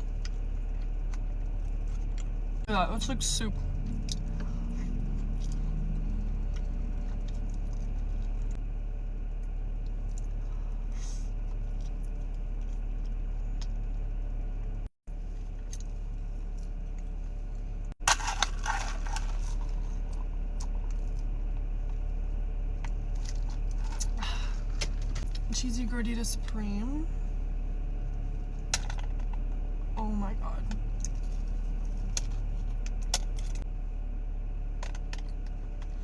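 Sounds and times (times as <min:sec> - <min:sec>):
car interior hum: 0:00.0 - 0:08.6, 0:11.5 - 0:36.0.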